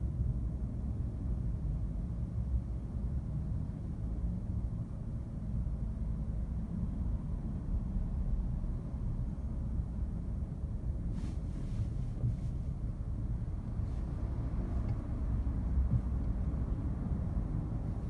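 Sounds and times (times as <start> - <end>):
road and tyre rumble: 0.0 - 18.0.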